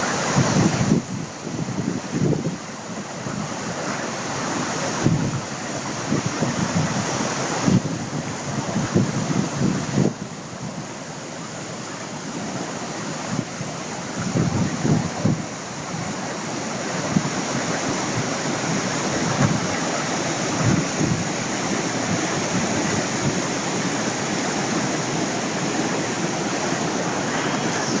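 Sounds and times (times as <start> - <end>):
wind buffeting microphone: 0.0 - 3.9, 4.5 - 11.0, 13.2 - 28.0
stream rushing: 0.0 - 28.0.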